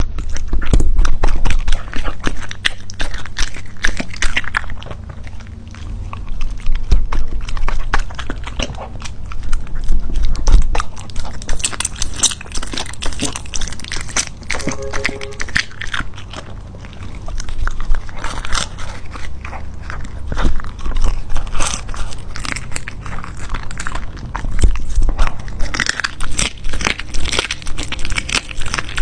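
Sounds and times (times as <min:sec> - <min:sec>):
dog chewing and crunching food: 0:00.0 - 0:29.0.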